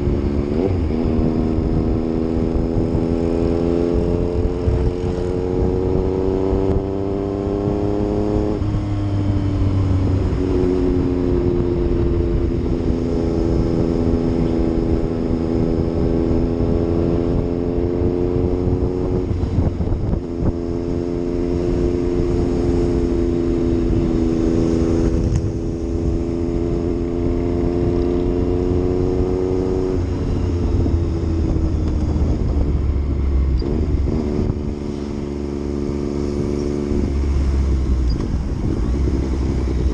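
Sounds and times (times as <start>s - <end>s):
motorcycle engine on road: 0.0s - 39.9s.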